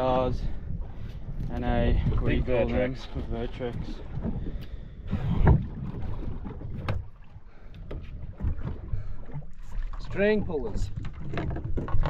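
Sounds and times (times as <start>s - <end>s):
wind on microphone: 0.0s - 9.9s
water slapping against hull: 0.0s - 12.0s
water rush: 1.5s - 12.0s.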